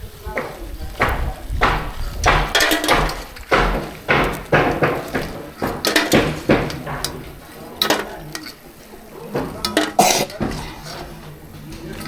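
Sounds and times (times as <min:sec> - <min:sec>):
hammering knocks: 0:00.2 - 0:12.0.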